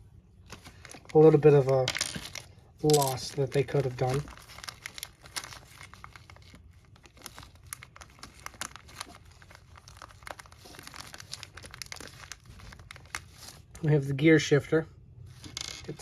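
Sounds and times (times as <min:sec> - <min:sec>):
plastic packaging crinkling: 0:00.4 - 0:13.8.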